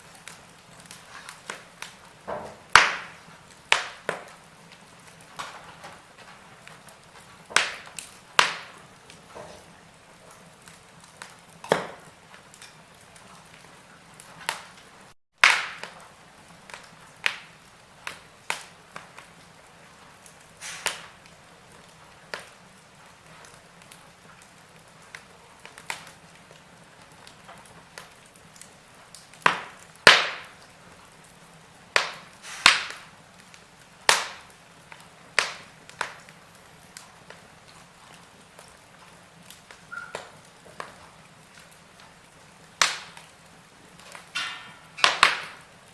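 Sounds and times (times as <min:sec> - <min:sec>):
faint steady hiss: 0:00.0 - 0:45.9
wood fire crackling and popping: 0:00.0 - 0:45.9.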